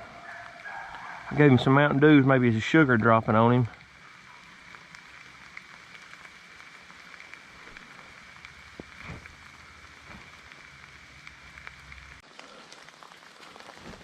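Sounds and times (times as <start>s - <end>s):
light rain falling: 0.0s - 14.0s
raindrops ticking near microphone: 0.0s - 14.0s.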